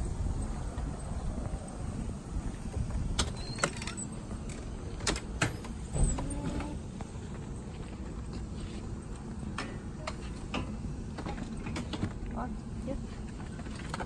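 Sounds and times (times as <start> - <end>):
vehicle interior rumble: 0.0 - 14.0.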